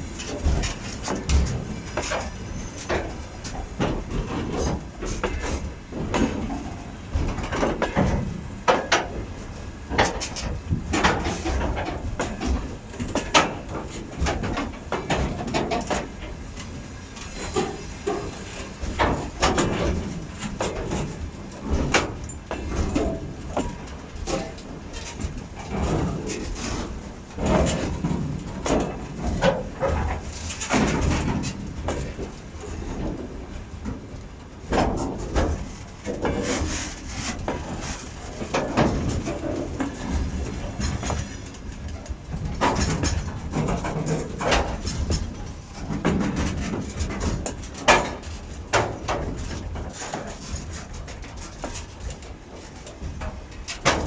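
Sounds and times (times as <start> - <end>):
train rumbling: 0.0 - 54.0
wagons clanking and knocking: 0.0 - 54.0.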